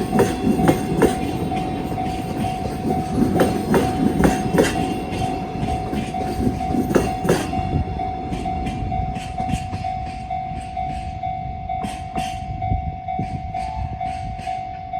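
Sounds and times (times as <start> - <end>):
level crossing alarm ringing: 0.0 - 14.9
train wheels clicking over rail joints: 0.0 - 14.9.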